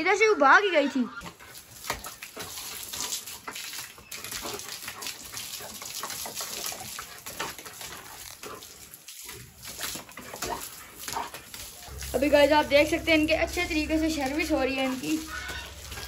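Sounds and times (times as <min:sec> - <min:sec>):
hose water spraying on concrete: 0:01.2 - 0:16.0.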